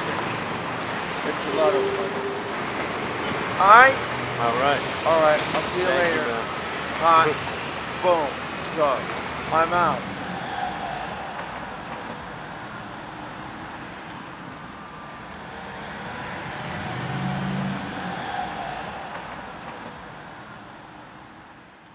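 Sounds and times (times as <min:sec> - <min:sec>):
passing vehicles hum: 0:00.0 - 0:21.5.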